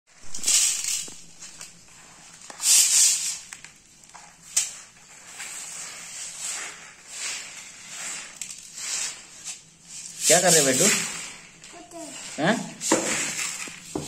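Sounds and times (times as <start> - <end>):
grains rustling on plastic tarp: 0.2 - 14.0.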